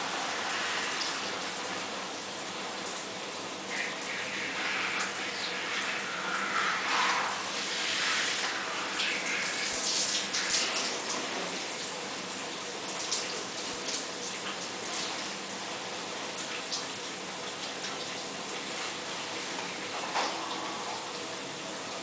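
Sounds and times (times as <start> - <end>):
shower spray splashing: 2.7 - 21.2.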